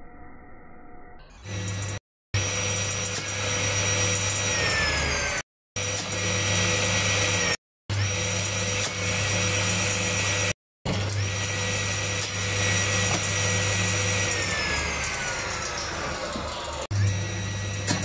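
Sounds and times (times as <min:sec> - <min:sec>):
circular saw motor whine: 0:00.6 - 0:18.0.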